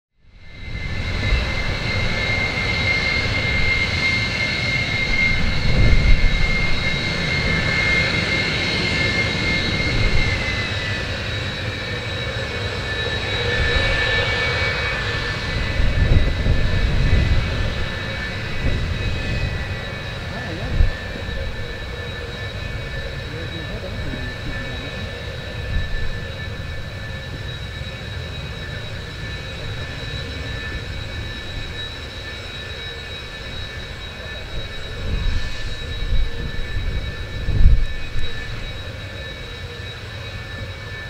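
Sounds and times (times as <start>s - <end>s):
jet engines whining: 0.2s - 41.0s.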